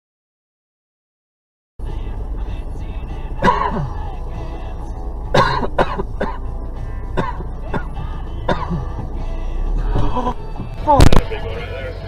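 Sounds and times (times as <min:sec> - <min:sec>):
background music: 0:01.8 - 0:12.0
steady low rumble: 0:01.8 - 0:12.0.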